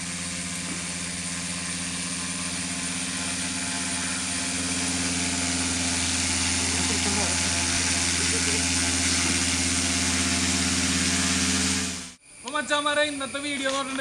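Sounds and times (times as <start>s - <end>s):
propeller motors humming: 0.0s - 12.2s.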